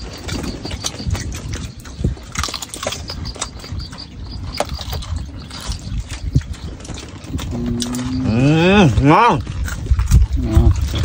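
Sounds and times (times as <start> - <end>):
chewing clicks: 0.0 - 11.0.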